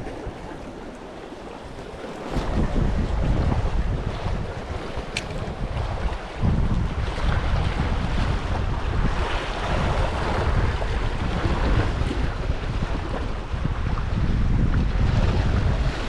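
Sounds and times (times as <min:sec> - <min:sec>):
sea waves on shore: 0:00.0 - 0:16.0
wind buffeting microphone: 0:00.0 - 0:16.0.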